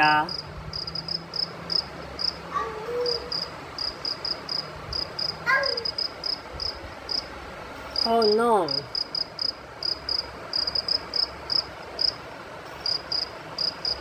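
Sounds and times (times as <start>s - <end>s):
cricket chirping: 0.3s - 2.4s, 3.3s - 7.3s, 8.0s - 12.2s, 12.8s - 14.0s.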